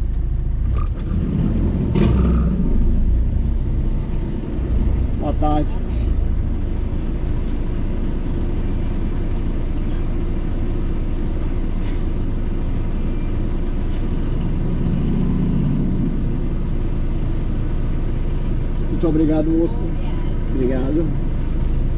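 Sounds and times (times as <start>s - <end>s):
low hum: 0.0s - 19.2s
car rumble inside cabin: 0.0s - 21.9s.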